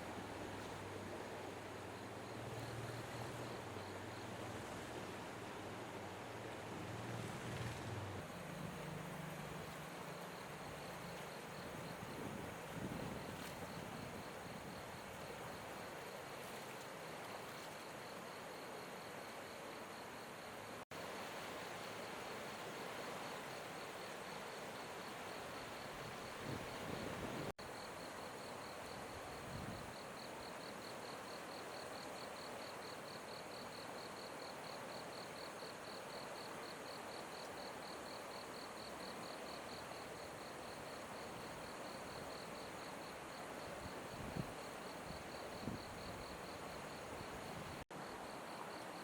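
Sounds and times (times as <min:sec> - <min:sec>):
flowing river water: 0:00.0 - 0:49.0
cricket chirping: 0:08.2 - 0:49.0.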